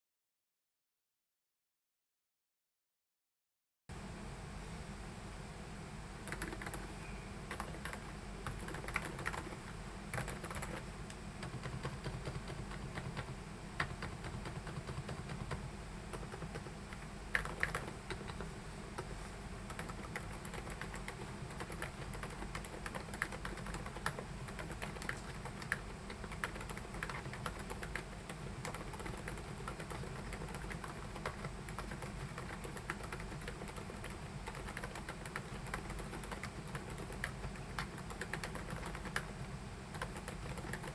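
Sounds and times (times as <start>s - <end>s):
mechanical keyboard typing: 6.2s - 6.9s, 7.5s - 19.1s, 19.7s - 40.9s.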